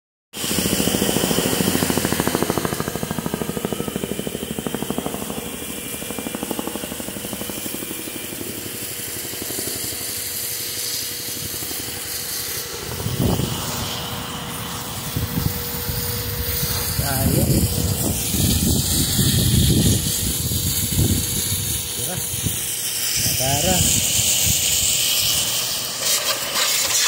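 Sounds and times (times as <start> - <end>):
helicopter rotor chopping: 0.4 - 27.0.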